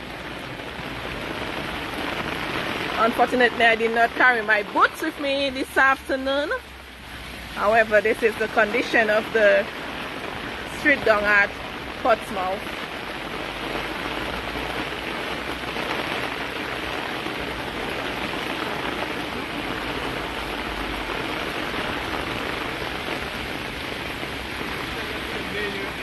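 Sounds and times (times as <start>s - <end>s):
rain falling on flooded street: 0.0s - 26.0s.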